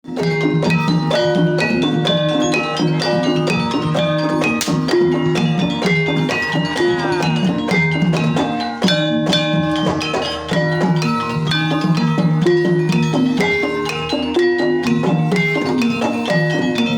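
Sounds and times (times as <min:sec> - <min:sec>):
drum playing: 0:00.1 - 0:16.9
gamelan ensemble music: 0:00.1 - 0:16.9.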